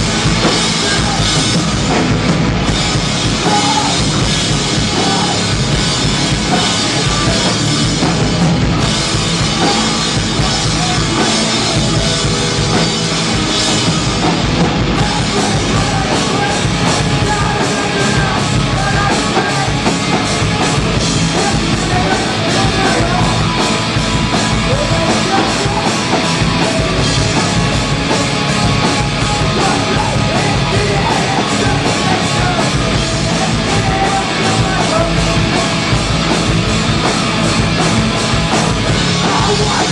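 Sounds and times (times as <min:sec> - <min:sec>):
drum kit: 0:00.0 - 0:39.9
hardcore band playing live: 0:00.0 - 0:39.9.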